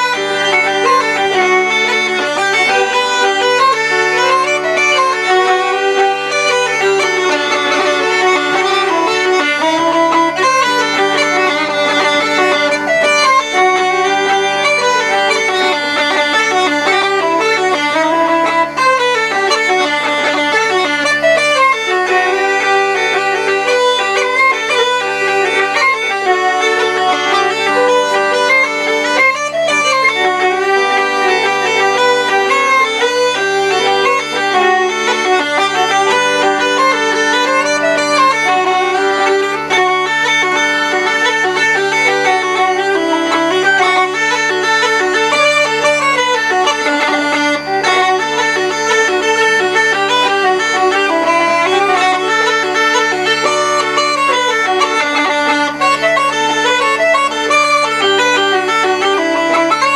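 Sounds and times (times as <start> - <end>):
bagpipe melody with drone: 0.0 - 59.9
fiddle playing: 0.0 - 59.9.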